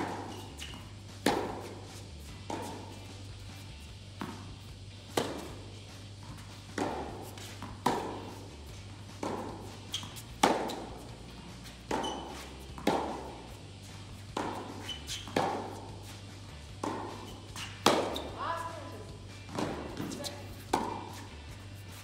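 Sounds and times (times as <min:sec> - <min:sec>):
tennis ball bouncing on court: 0:00.0 - 0:22.0
tennis ball struck with racket: 0:00.0 - 0:22.0.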